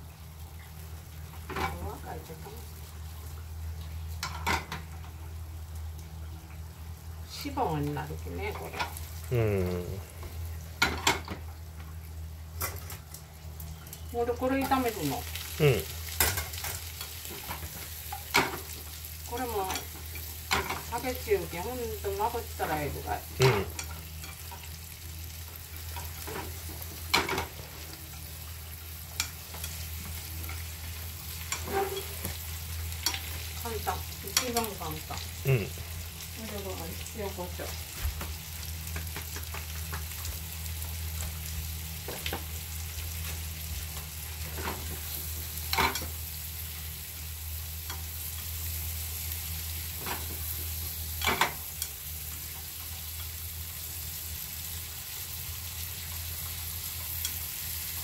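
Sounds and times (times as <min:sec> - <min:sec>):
peas sizzling in a frying pan: 0:00.0 - 0:58.0.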